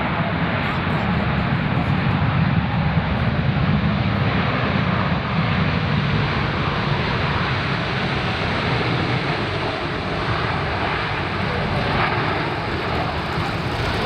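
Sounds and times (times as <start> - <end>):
jet airliner engine rush: 0.0 - 14.0.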